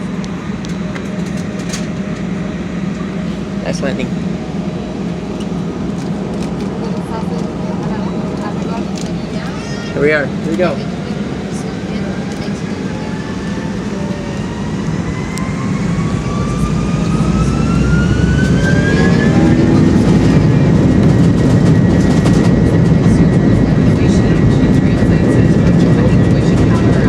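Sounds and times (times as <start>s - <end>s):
jet engines spooling up: 0.0s - 27.0s.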